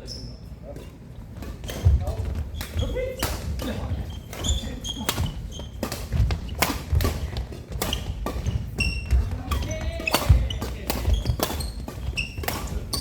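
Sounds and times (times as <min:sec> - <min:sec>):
shoes squeaking on court floor: 0:00.0 - 0:13.0
racket hitting shuttlecock: 0:00.8 - 0:13.0.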